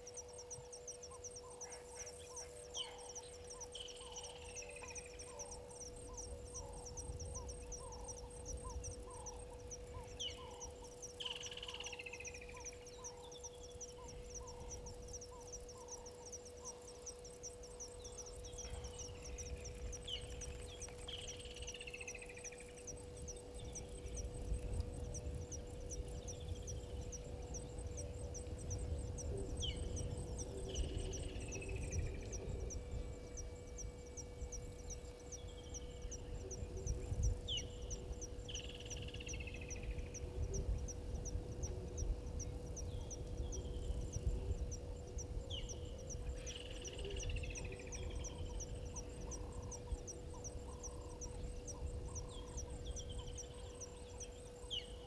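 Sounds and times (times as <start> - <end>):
insect ticking: 0.0 - 55.0
steady hum: 0.0 - 55.0.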